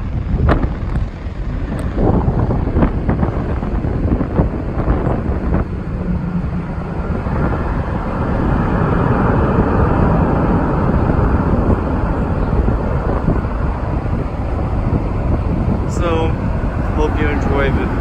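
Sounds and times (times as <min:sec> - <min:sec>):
jet engines roaring: 0:00.0 - 0:18.0
wind buffeting microphone: 0:00.0 - 0:18.0.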